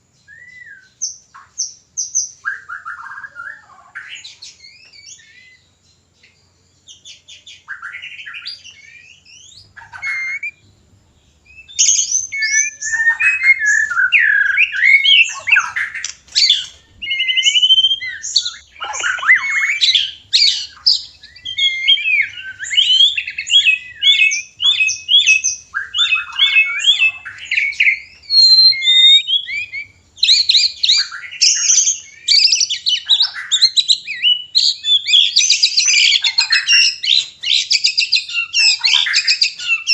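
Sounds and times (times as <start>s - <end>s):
bird song whistles and trills: 0.0s - 39.9s.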